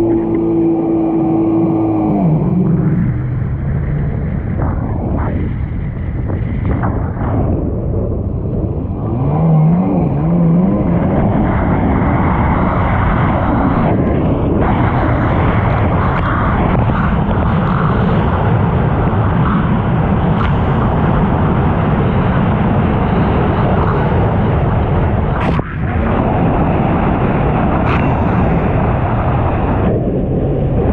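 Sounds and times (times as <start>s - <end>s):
jet ski engine revving: 0.0s - 4.4s, 9.0s - 29.8s
wind noise: 0.0s - 30.9s.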